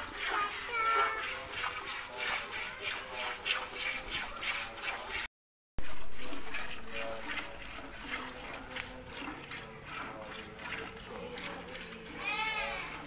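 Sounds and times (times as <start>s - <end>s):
milk squirting into pail: 0.0s - 13.0s.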